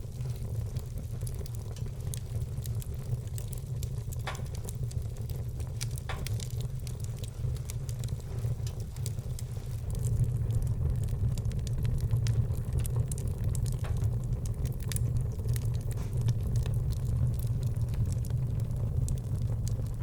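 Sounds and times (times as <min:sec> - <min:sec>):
loud fire pops: 0:00.0 - 0:20.0
low fire rumble: 0:00.0 - 0:20.0
wood fire crackling: 0:00.0 - 0:20.0.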